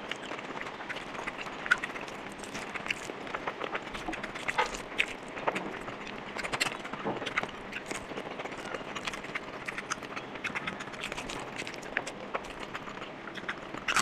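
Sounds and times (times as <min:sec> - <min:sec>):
chewing: 0:00.0 - 0:14.0
sticky eating sounds: 0:00.0 - 0:14.0.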